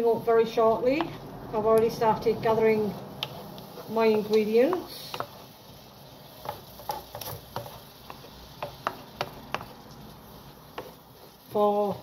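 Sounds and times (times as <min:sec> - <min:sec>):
onion sizzling in pan: 0:00.0 - 0:12.0.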